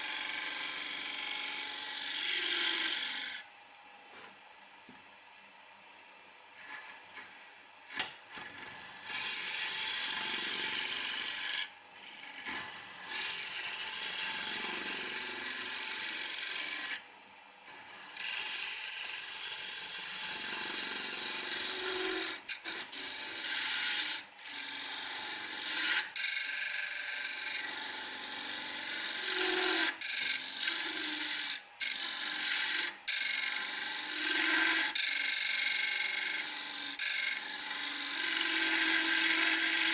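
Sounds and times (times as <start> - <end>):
chisel scraping spinning wood: 0.0 - 3.4, 6.6 - 17.0, 17.7 - 39.9.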